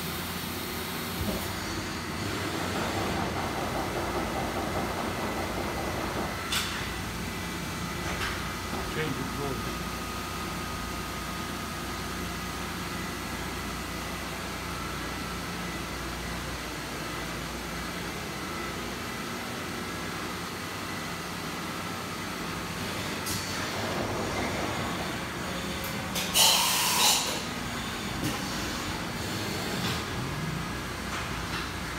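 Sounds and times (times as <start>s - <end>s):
machine hum with high whine: 0.0s - 31.9s.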